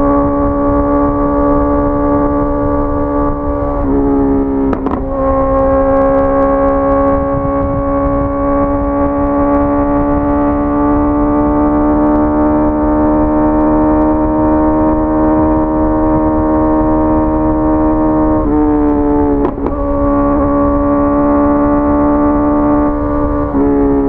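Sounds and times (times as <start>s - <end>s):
motorcycle engine at high revs: 0.0s - 24.0s.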